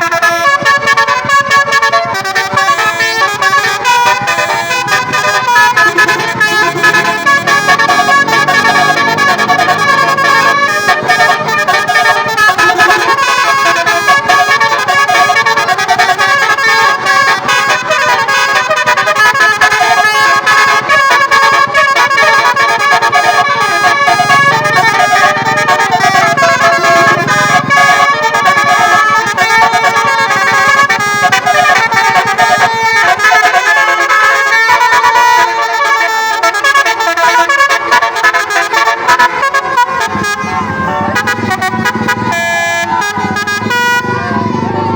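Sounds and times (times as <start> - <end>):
musical air horn melody: 0.0 - 44.9.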